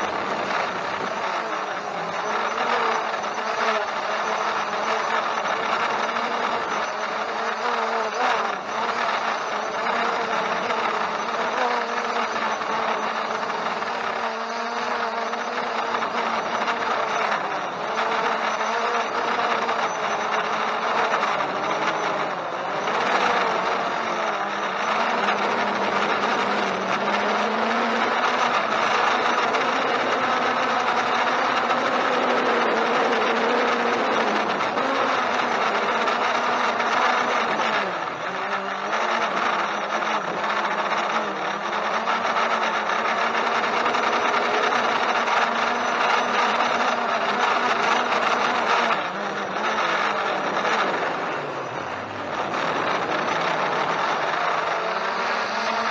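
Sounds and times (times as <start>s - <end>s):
quadcopter propellers whirring: 0.0s - 55.9s.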